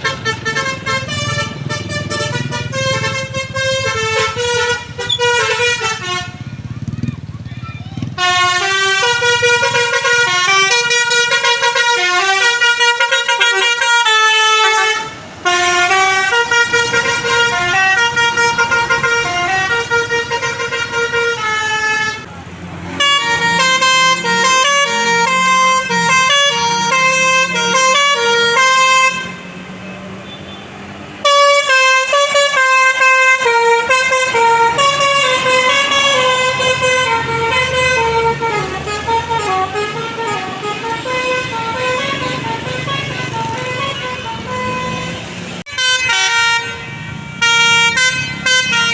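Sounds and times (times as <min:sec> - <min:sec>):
bus musical horn melody: 0:00.0 - 0:06.7, 0:08.0 - 0:22.3, 0:22.9 - 0:48.9.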